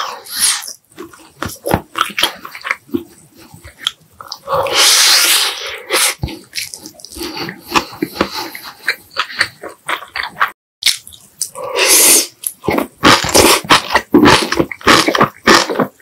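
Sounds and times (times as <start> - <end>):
chewing meat off ribs: 0.7 - 4.7, 6.2 - 11.6, 12.4 - 16.0.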